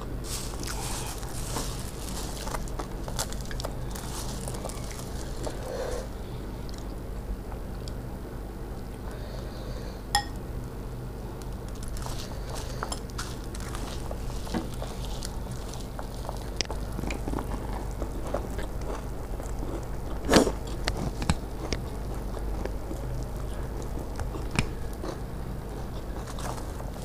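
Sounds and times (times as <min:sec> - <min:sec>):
puffed rice being chewed: 0:00.0 - 0:08.1, 0:11.3 - 0:27.0.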